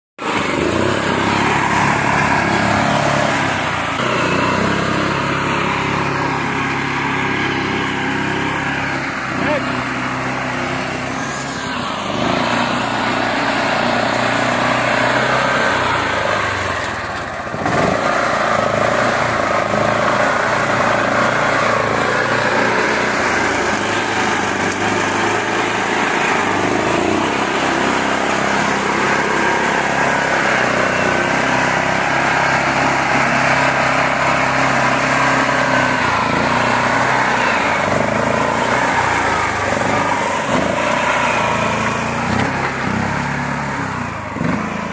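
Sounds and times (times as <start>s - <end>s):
mini tractor engine running: 0.2s - 44.9s.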